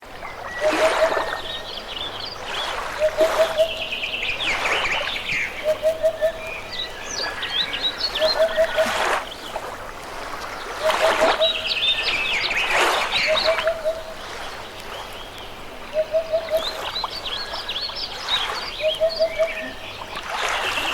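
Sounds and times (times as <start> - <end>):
river rushing: 0.0 - 20.9
birds chirping and singing: 0.3 - 9.6, 10.7 - 20.1.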